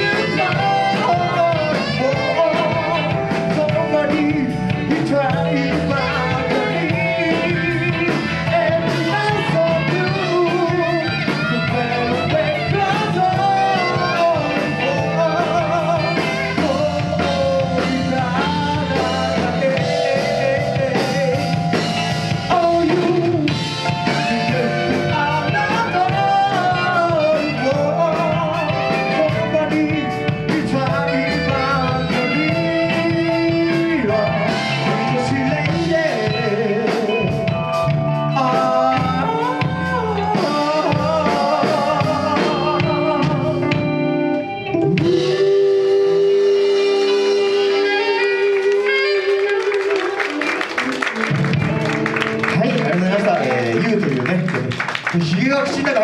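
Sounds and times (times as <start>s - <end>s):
person singing: 0.0s - 54.1s
drum kit: 0.0s - 56.0s
guitar: 0.0s - 56.0s.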